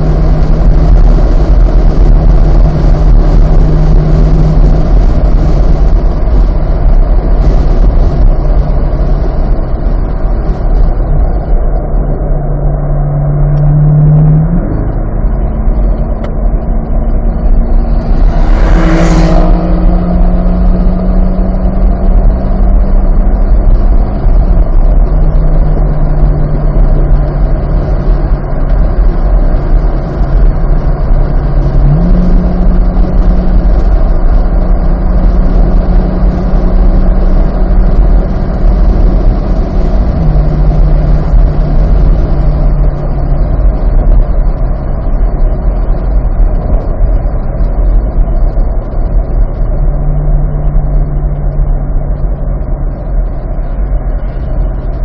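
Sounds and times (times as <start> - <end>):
sports car engine running: 0.0 - 55.0
wind and road noise: 0.0 - 55.0.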